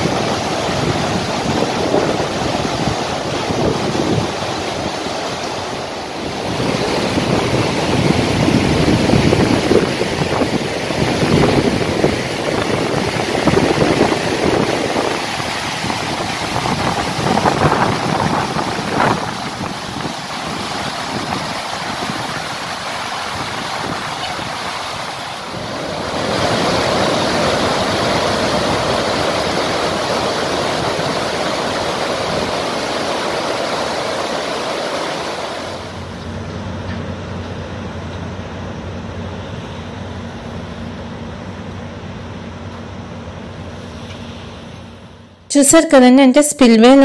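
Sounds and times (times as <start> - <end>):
water roaring through dam gates: 0.0 - 44.2.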